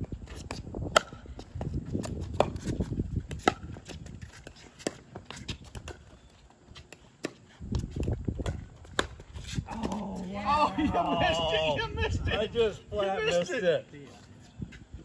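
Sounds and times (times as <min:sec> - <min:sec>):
shoes shuffling on hard court: 0:00.0 - 0:10.6, 0:13.3 - 0:15.0.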